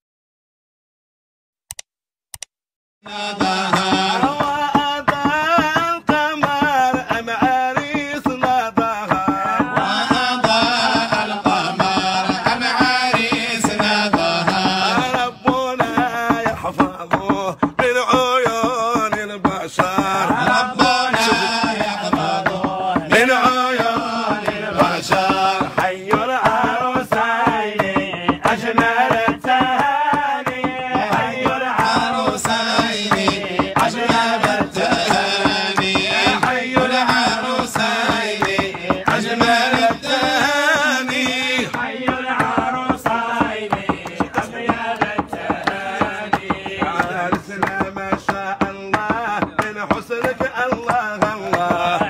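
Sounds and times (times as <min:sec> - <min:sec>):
ornamented wavering vocal melody: 0:03.1 - 0:17.0, 0:17.9 - 0:48.5
steady drum beats: 0:03.1 - 0:52.0.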